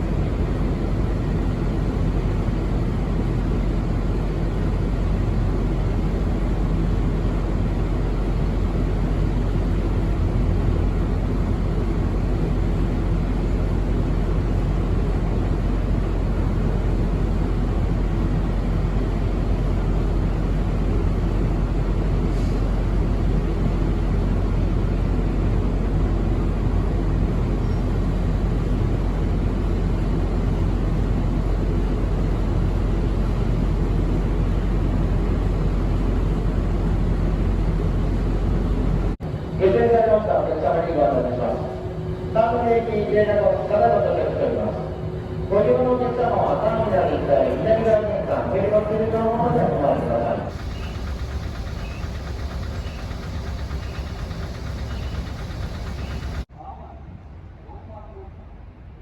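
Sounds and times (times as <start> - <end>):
diesel engines droning: 0.0 - 56.5.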